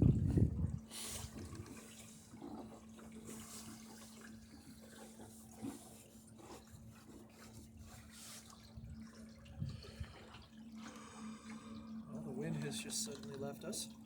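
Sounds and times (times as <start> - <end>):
steady low hum: 0.0 - 14.0
water lapping against a hull: 0.0 - 14.0.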